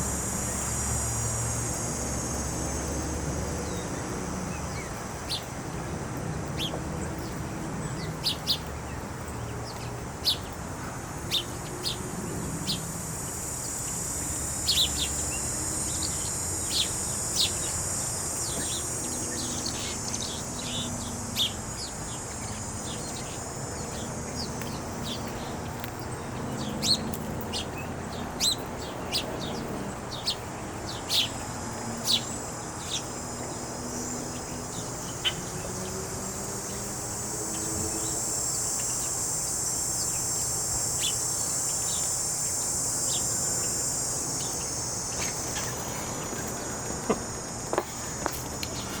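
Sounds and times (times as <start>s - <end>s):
small birds chirping: 1.6s - 5.9s, 6.5s - 49.0s.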